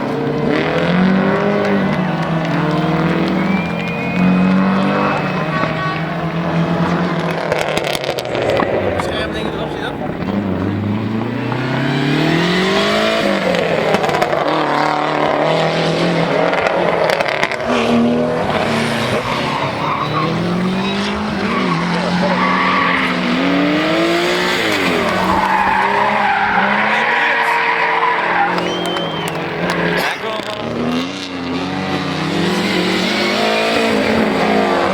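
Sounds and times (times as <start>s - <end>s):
rally car engine revving: 0.0s - 34.9s
tyre and road noise: 0.0s - 34.9s.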